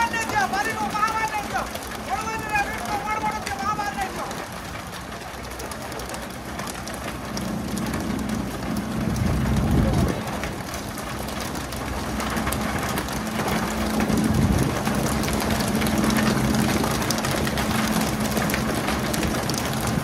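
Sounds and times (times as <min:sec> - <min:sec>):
boat engine humming: 0:00.0 - 0:20.0
small clicks and taps: 0:00.0 - 0:20.0.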